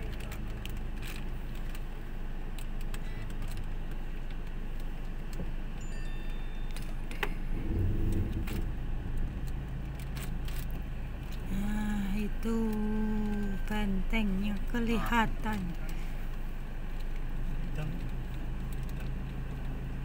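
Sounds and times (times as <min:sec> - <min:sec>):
car engine low hum: 0:00.0 - 0:20.0
light clicks and rattles: 0:00.0 - 0:20.0.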